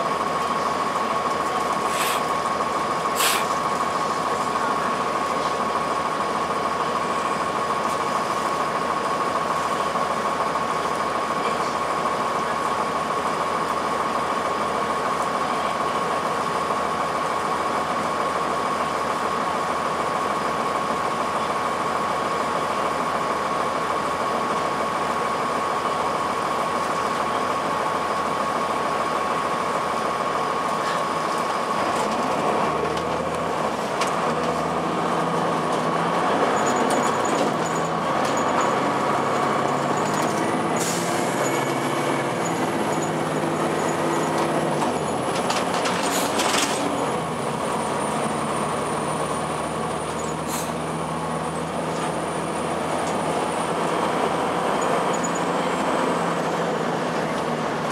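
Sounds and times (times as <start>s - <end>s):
diesel bus engine revving: 0.0s - 57.9s.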